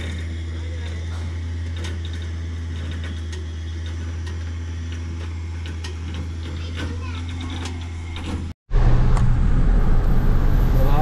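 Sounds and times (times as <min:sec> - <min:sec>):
electric winch humming: 0:00.0 - 0:11.0.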